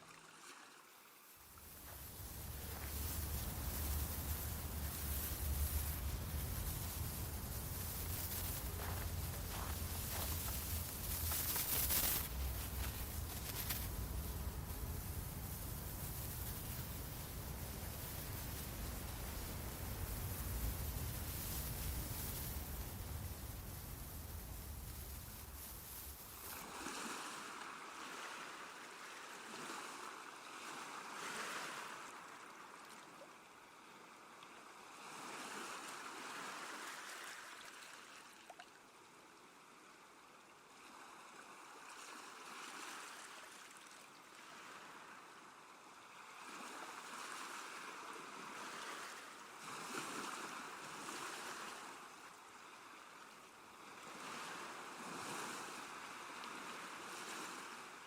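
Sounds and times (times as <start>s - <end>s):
small waves washing onto shore: 0.0s - 38.6s, 40.8s - 58.0s.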